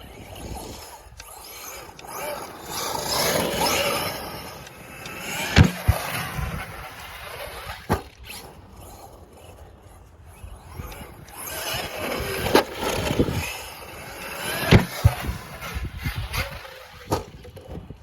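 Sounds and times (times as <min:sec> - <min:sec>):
toy truck electric motor whining: 0:00.0 - 0:18.0.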